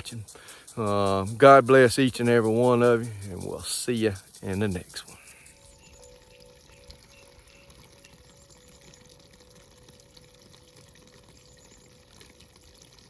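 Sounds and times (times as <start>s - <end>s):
running water hiss: 0.0s - 13.0s
thin steady hum: 0.0s - 13.0s.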